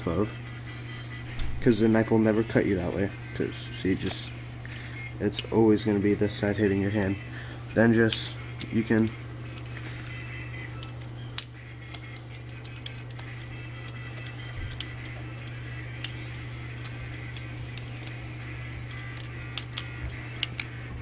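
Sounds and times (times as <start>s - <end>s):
steady low hum: 0.0s - 21.0s
butterfly knife handles clacking: 2.0s - 7.2s, 7.8s - 20.9s.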